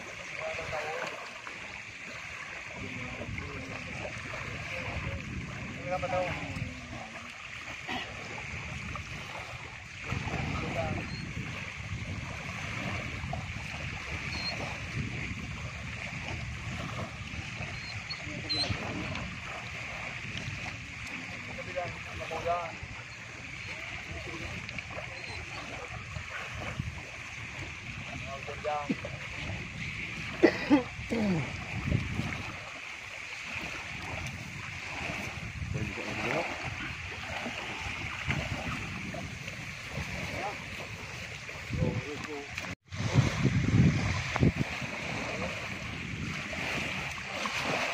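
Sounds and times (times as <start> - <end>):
water lapping at shoreline: 0.0 - 47.9
wind on microphone: 0.0 - 47.9.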